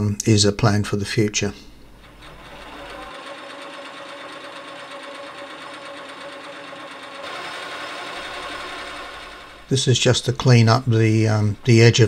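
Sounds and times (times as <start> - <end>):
lathe running with whine: 2.0 - 12.0.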